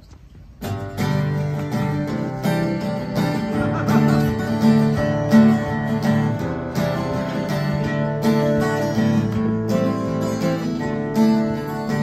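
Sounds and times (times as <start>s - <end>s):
acoustic guitars strumming chords: 0.0s - 12.0s.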